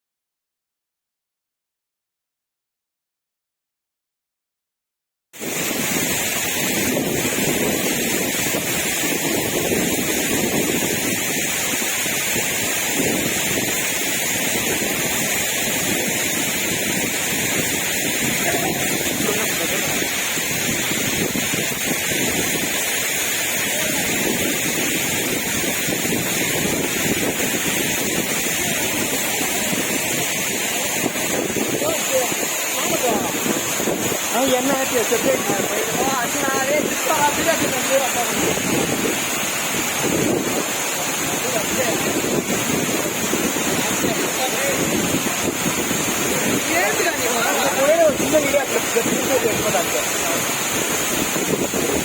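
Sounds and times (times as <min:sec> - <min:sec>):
waterfall rushing: 0:05.4 - 0:52.0.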